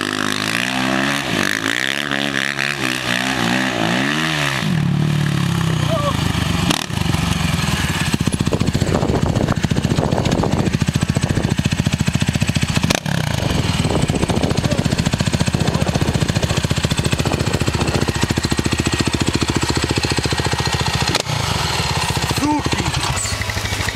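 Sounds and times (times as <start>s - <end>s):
quad bike engine running: 0.0s - 23.9s.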